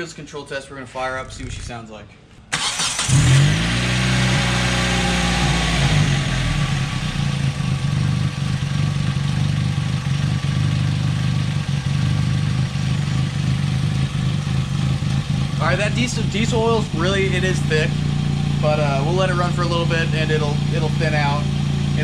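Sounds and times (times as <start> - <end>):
car engine idling: 2.5 - 22.0.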